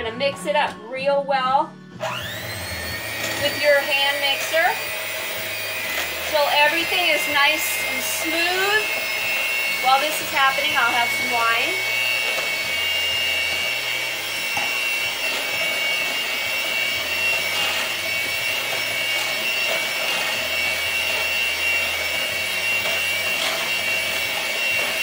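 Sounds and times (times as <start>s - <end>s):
electric hand mixer whisking: 1.9s - 25.0s.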